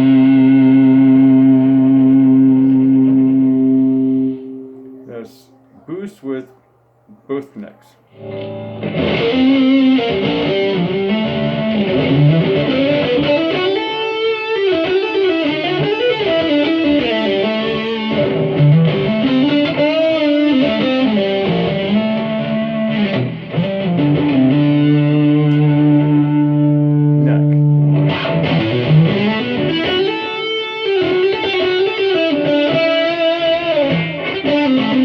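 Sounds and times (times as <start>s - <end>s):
distorted electric guitar: 0.0s - 5.8s, 8.1s - 35.0s.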